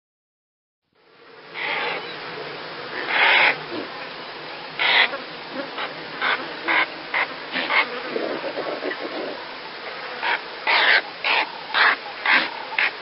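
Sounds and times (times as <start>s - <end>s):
impala calling: 1.5s - 13.0s.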